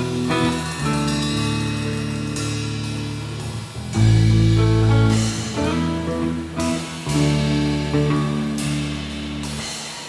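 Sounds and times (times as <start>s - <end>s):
drum kit: 0.0s - 10.0s
electric bass: 0.0s - 10.0s
electric guitar: 0.0s - 10.0s.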